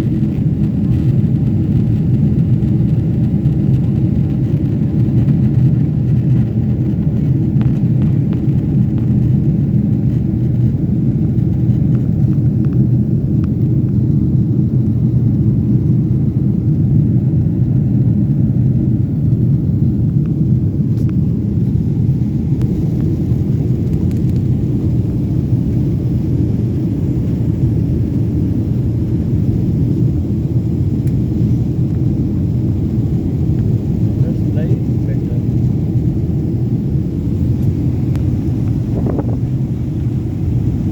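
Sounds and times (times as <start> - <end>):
jet airliner cabin rumble: 0.0 - 40.9.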